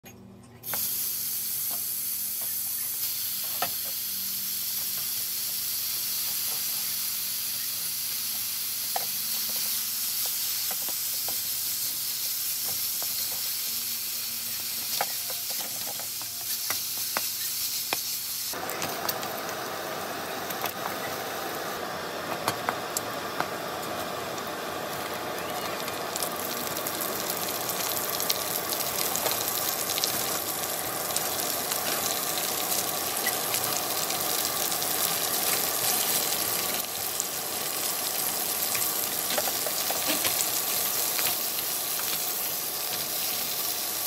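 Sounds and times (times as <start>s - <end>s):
bacon sizzling in a wok: 0.6s - 44.0s.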